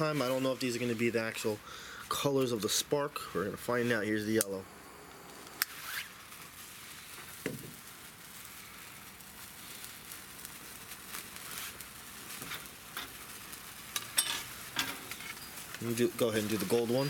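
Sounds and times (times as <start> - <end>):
sparkler fizzing crackle: 0.0 - 17.0
sparkler pops: 0.0 - 17.0.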